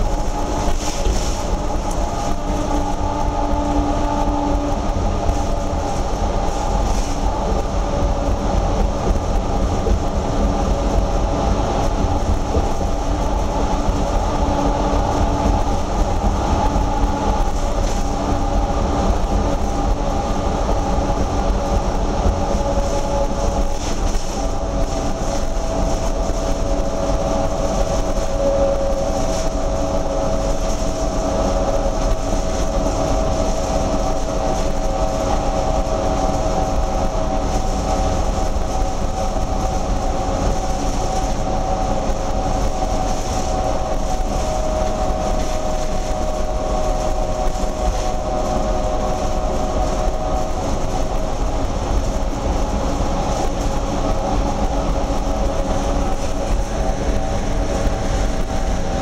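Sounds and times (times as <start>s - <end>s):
bus engine drone: 0.0s - 59.0s
multi-tone whine: 0.0s - 59.0s
road rumble: 0.0s - 59.0s.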